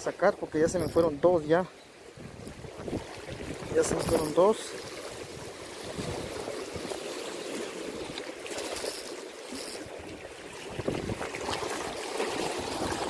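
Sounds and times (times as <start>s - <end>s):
water splashing against bank: 2.3s - 13.0s.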